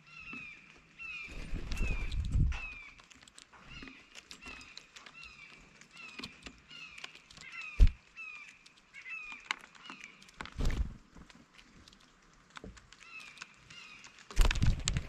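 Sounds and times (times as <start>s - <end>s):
small clicks: 1.6s - 15.0s.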